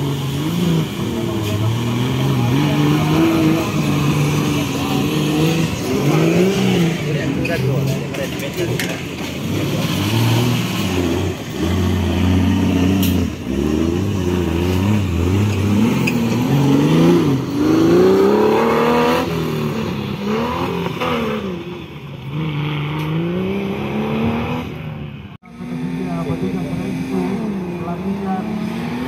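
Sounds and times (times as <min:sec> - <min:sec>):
buggy engine revving: 0:00.0 - 0:29.0.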